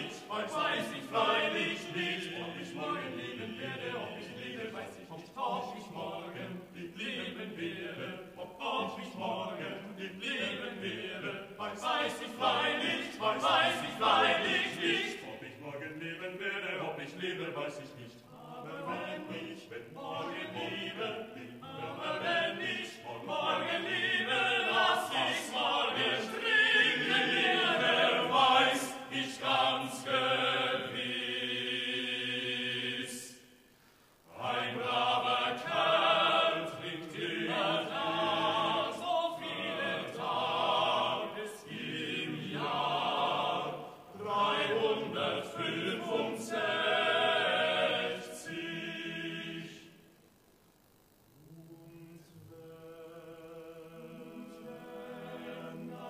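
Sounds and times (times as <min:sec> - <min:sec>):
men's choir singing a cappella: 0:00.0 - 0:33.7, 0:34.3 - 0:50.1, 0:51.5 - 0:56.0.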